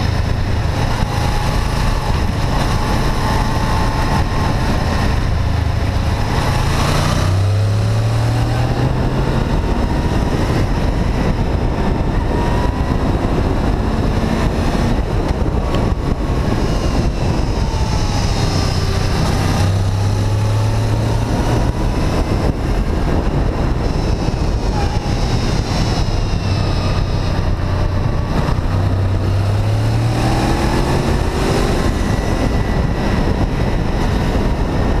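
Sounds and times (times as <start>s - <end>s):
motorcycle engine revving: 0.0s - 35.0s
wind noise: 0.0s - 35.0s.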